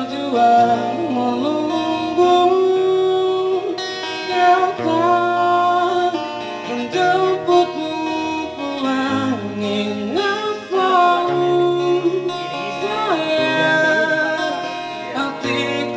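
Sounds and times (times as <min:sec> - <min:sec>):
guitar strumming: 0:00.0 - 0:15.9
man singing into a microphone: 0:00.0 - 0:15.9.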